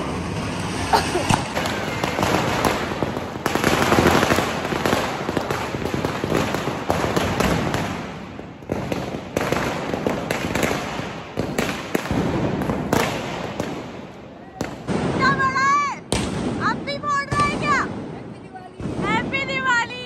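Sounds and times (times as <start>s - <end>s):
firecrackers crackling: 0.0s - 20.0s.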